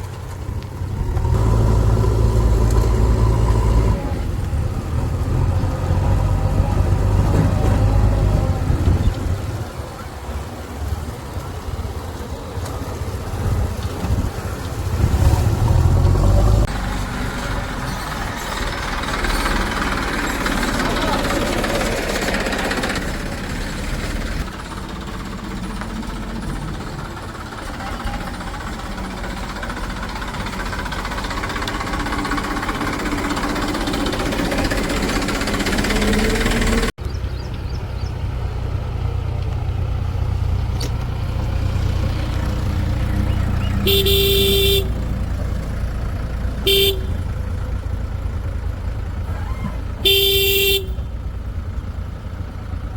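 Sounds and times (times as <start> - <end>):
diesel engines running: 0.0 - 52.9.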